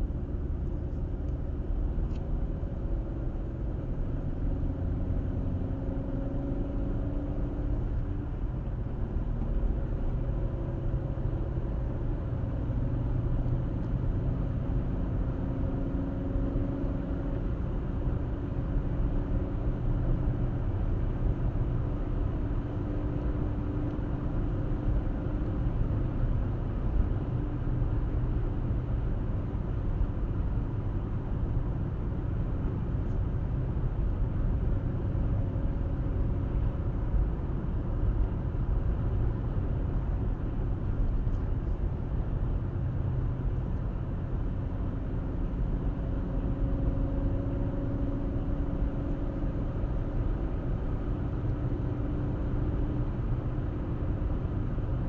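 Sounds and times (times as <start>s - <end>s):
faint engine hum: 0.0s - 55.0s.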